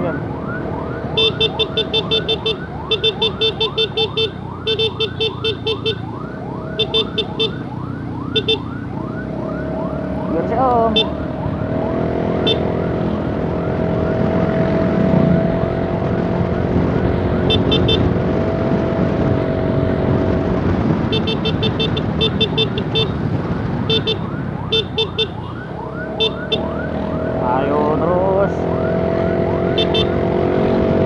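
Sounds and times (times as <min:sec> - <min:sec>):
emergency siren sweeps: 0:00.0 - 0:21.0, 0:23.3 - 0:31.0
motorcycle riding noise: 0:00.0 - 0:31.0.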